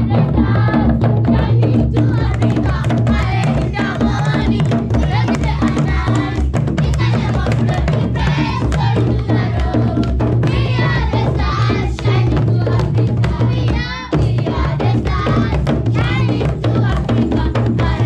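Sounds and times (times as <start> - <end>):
children singing together: 0.0 - 18.0
hide drums beating fast: 0.0 - 18.0.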